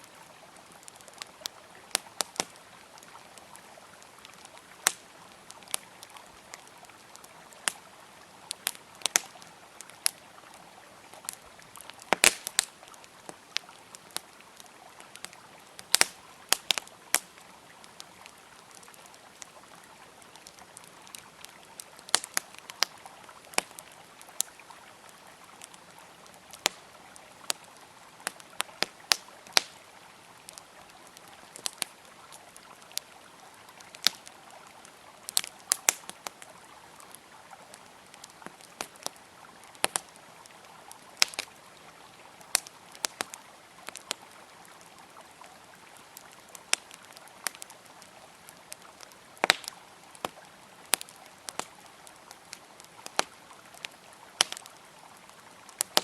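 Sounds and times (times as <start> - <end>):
river flowing: 0.0 - 55.8
campfire crackling and popping: 0.0 - 56.0.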